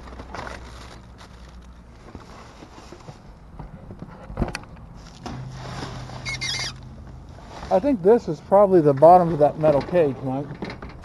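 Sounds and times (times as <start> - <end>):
plastic and cardboard rustling: 0.0 - 4.2, 5.0 - 11.0.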